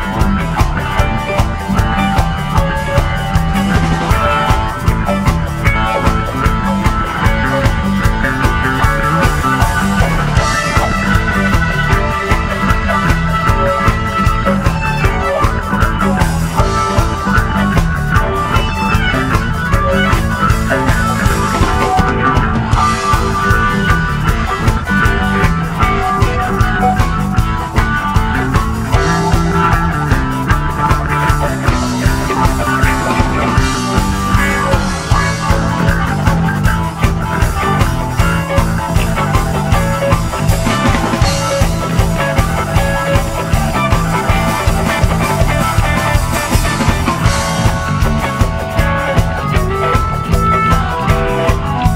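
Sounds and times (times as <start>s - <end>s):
bass guitar: 0.0s - 51.9s
drum kit beat: 0.0s - 51.9s
electric guitar: 0.0s - 51.9s
keyboards: 0.0s - 51.9s.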